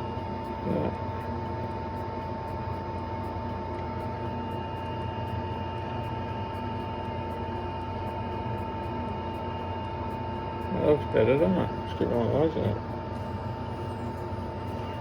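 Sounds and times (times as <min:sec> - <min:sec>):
fan-like noise: 0:00.0 - 0:15.0
machine hum with high whine: 0:00.0 - 0:15.0.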